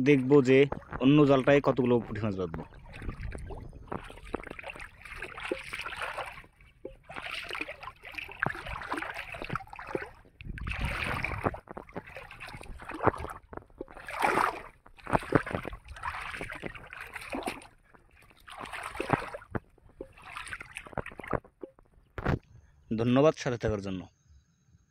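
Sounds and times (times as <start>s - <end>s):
water splashing and sloshing: 0.0s - 22.4s.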